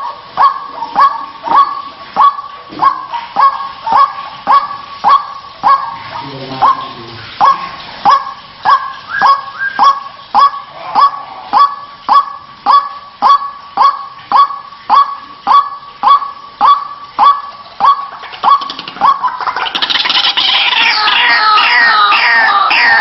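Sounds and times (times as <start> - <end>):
waterhen harsh repeated call: 0.0 - 23.0.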